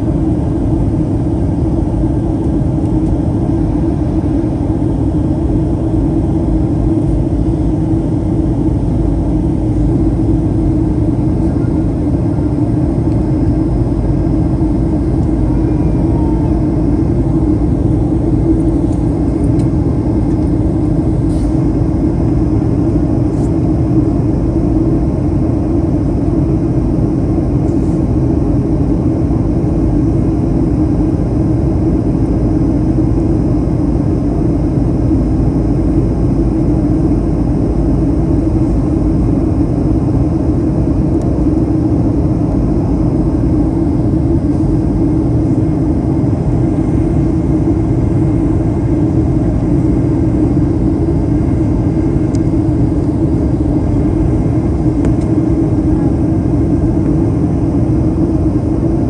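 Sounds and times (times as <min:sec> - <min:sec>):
airliner cabin engine drone: 0:00.0 - 0:59.0.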